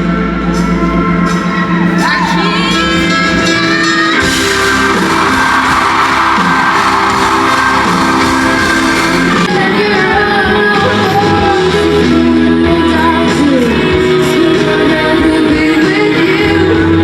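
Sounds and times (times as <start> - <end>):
rock music with guitar: 0.0 - 17.0
person singing: 0.5 - 17.0.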